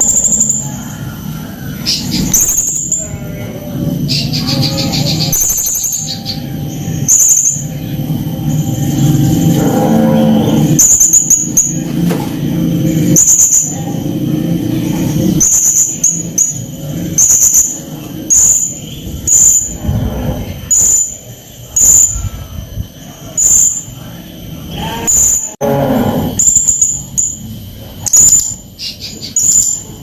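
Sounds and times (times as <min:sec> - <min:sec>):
rough low rumbling: 0:00.0 - 0:30.0.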